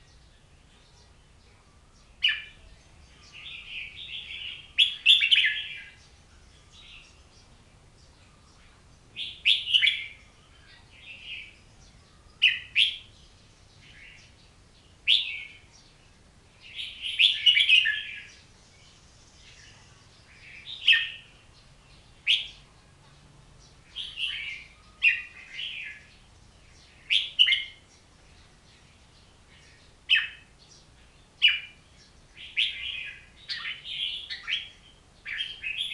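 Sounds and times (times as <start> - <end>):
songbird chirping: 0.0 - 35.9.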